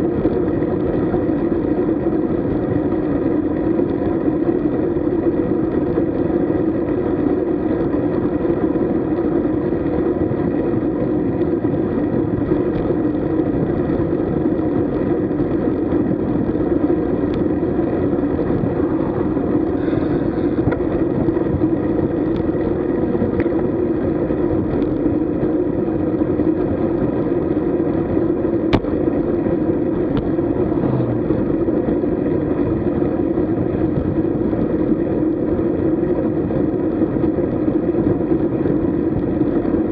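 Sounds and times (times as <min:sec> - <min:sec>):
bicycle road noise: 0:00.0 - 0:39.9
wind buffeting microphone: 0:00.0 - 0:39.9.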